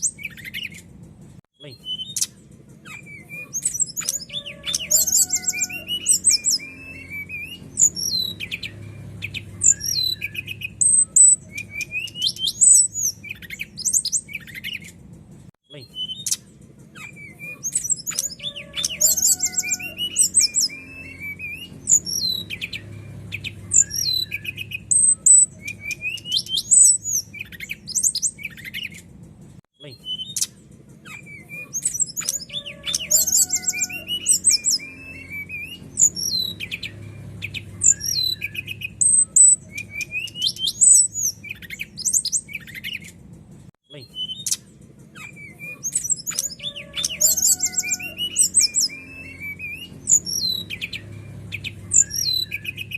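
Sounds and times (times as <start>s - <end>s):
bird singing chirps and trills: 0.0s - 0.9s, 1.6s - 15.1s, 15.7s - 29.1s, 29.8s - 43.2s, 43.9s - 52.9s.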